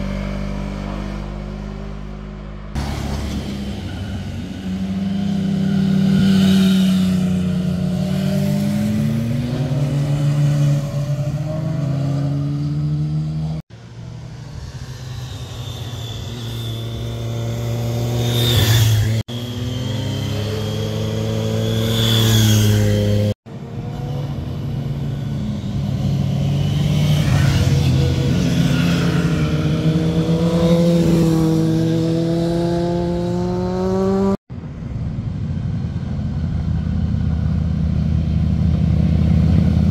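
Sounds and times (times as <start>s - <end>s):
motorcycle engines revving past: 0.0s - 34.4s.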